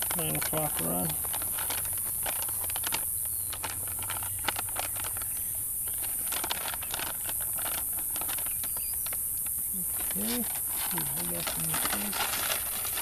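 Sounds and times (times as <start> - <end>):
rustling and light clicks: 0.0 - 13.0
steady high hiss: 0.0 - 13.0.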